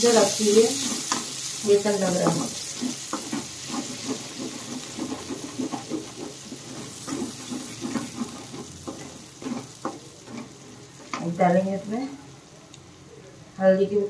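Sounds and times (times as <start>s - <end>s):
spoon stirring and scraping pan: 0.0s - 11.7s
mixture sizzling in frying pan: 0.0s - 14.0s.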